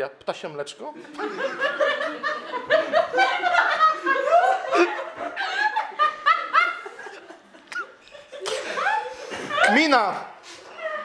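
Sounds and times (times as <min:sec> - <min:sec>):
people laughing: 0:01.0 - 0:10.2.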